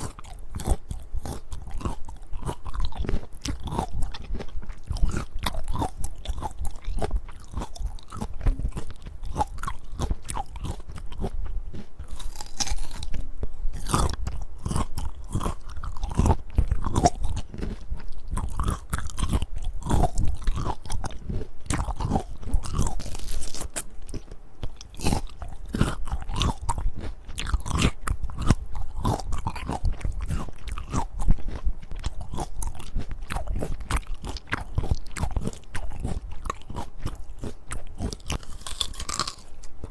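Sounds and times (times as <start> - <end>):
chewing close to microphone: 0.0 - 39.9
crunchy bites into fruit: 0.0 - 39.9.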